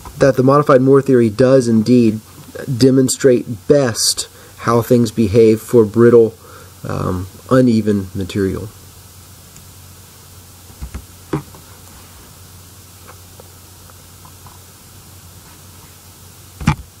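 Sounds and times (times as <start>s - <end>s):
low mains hum: 0.0s - 17.0s
microphone hiss: 0.0s - 17.0s.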